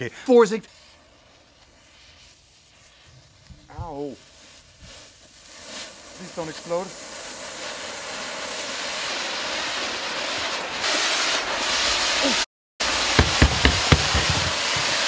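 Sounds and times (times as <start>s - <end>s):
fireworks hissing: 0.0s - 15.0s.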